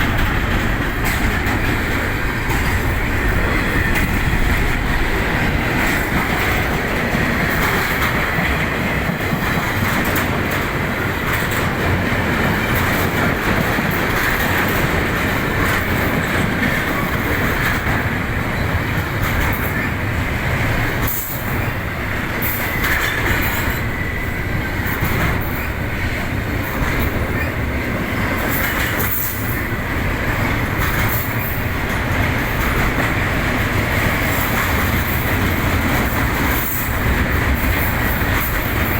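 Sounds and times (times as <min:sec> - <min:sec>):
train cars rumbling past: 0:00.0 - 0:38.9
wheels clicking over rail joints: 0:00.0 - 0:38.9.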